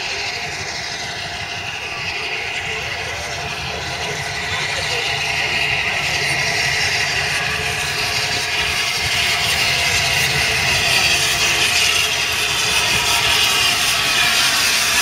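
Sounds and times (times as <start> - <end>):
steam train rumbling on rails: 0.0 - 15.0.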